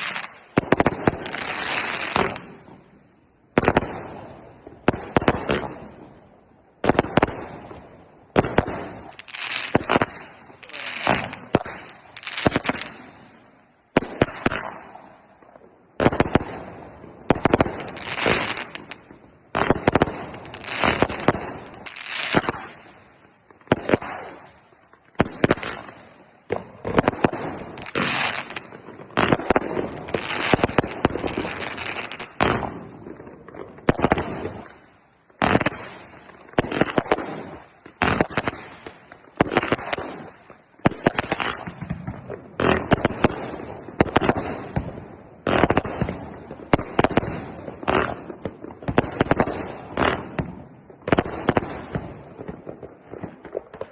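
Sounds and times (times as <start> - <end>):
firework launches and bursts: 0.0 - 2.9, 6.8 - 52.6
firework crackle: 0.0 - 53.9.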